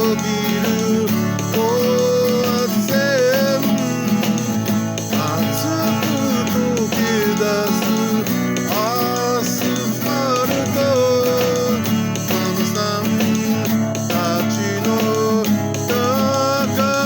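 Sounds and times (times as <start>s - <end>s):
guitar-led pop band instrumental: 0.0s - 17.0s.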